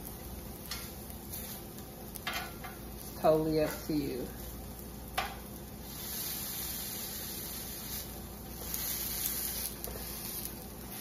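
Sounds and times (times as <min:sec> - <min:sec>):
cakes sizzling in oil: 0:00.0 - 0:11.0.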